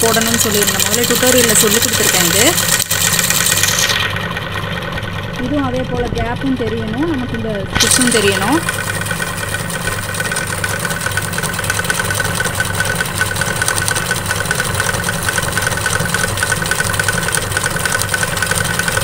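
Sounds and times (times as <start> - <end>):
embroidery machine stitching: 0.0 - 19.0.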